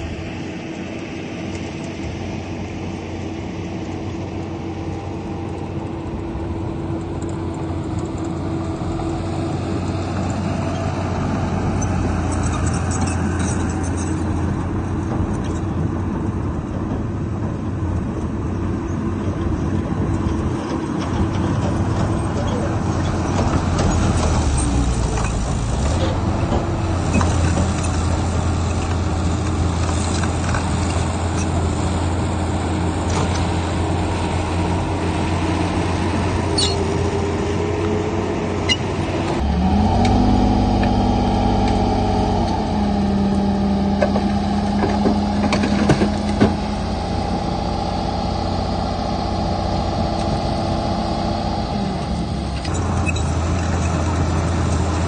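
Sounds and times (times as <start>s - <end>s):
heavy diesel machinery engines: 0.0s - 55.0s.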